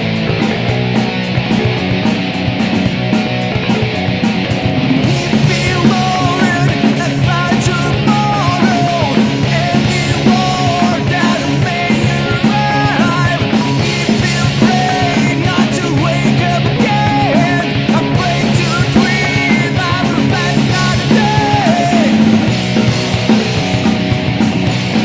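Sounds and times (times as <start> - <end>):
rock music with electric guitars: 0.0 - 25.0.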